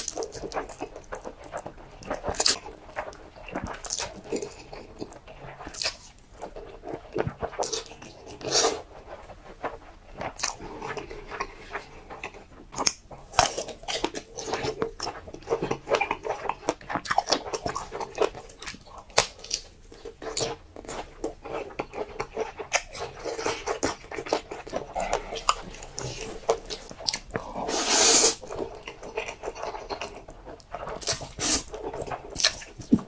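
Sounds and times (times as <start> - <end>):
mouth clicks and smacks: 0.0 - 33.0
noodles slurped: 0.0 - 33.0
wet sticky chewing: 0.0 - 33.0.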